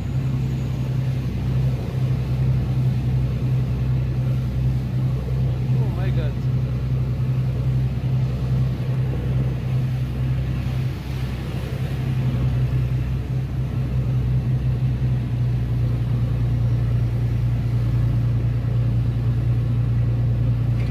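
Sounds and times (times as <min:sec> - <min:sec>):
low machinery hum: 0:00.0 - 0:20.9.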